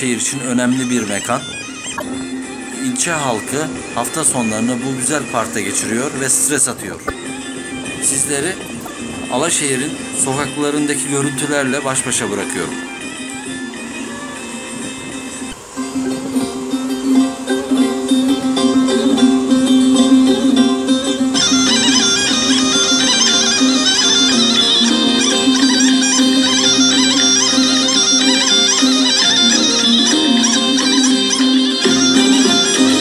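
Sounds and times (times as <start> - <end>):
bright high melody: 0.0 - 5.6, 7.0 - 33.0
background music: 0.0 - 33.0.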